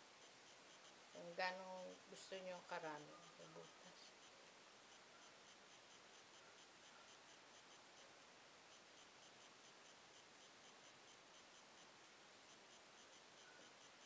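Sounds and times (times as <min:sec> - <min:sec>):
fast regular ticking: 0:00.0 - 0:14.0
steady hiss: 0:00.0 - 0:14.0.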